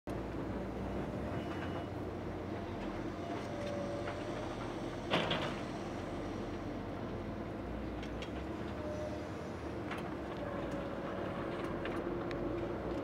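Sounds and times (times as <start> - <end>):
excavator diesel engine running: 0.1 - 13.0.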